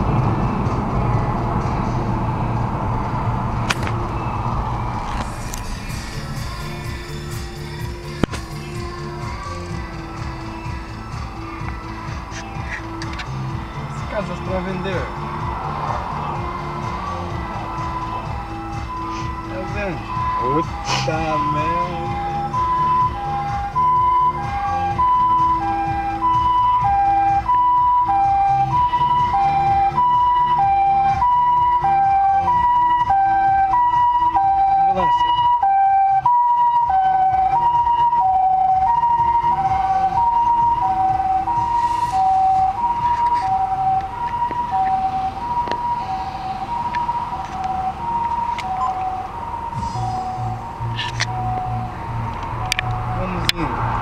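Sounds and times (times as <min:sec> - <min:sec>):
two-tone ambulance siren: 0:03.1 - 0:08.1, 0:09.3 - 0:54.0.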